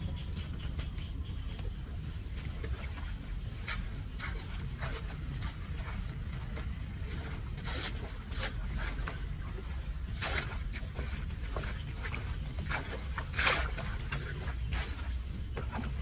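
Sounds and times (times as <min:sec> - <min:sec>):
brush scraping litter: 0:02.0 - 0:16.0.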